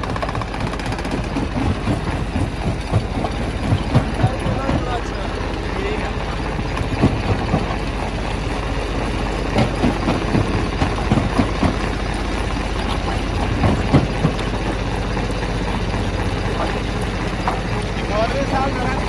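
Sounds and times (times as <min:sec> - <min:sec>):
stone crusher drone: 0:00.0 - 0:19.0.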